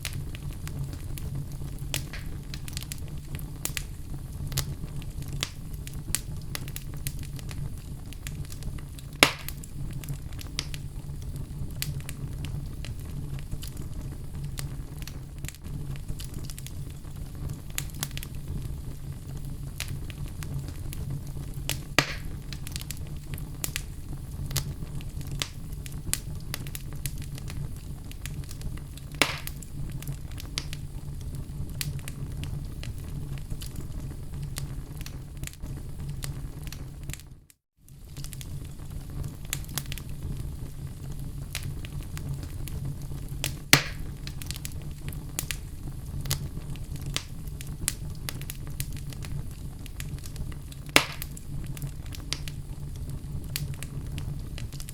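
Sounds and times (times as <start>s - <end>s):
loud fire snaps: 0.0s - 54.9s
low rumble of flame: 0.0s - 54.9s
wood fire crackling: 0.0s - 54.9s.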